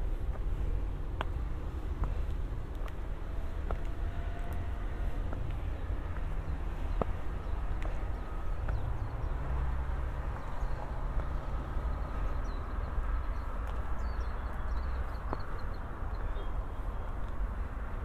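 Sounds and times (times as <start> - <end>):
footsteps on concrete steps: 0.0 - 16.0
steady low rumble: 0.0 - 18.0.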